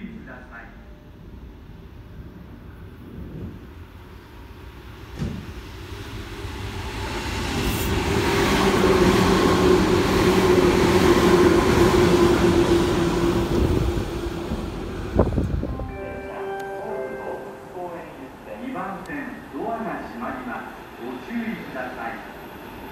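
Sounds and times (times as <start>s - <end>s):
electric train passing: 0.4s - 22.9s.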